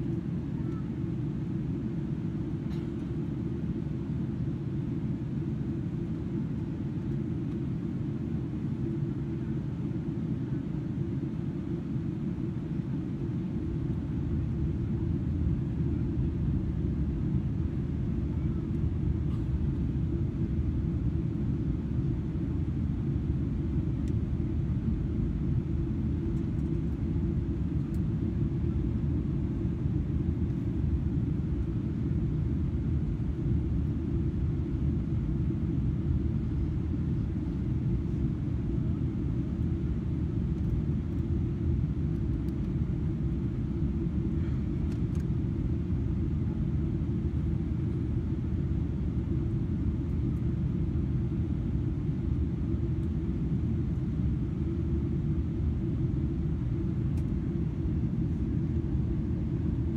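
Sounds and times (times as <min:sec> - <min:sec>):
airplane cabin low rumble: 0:00.0 - 0:59.9.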